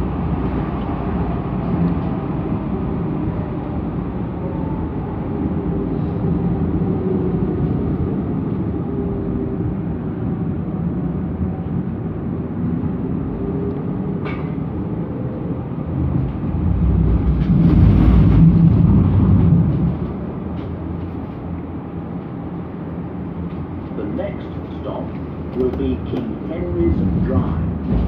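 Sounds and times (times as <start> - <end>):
tram wheels rumbling on rail: 0.0 - 28.0.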